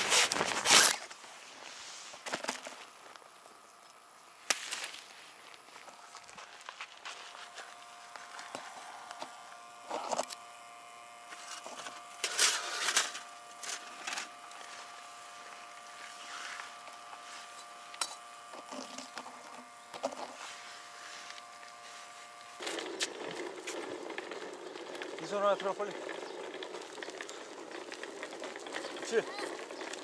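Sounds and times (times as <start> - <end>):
boiler humming: 0.0 - 30.0.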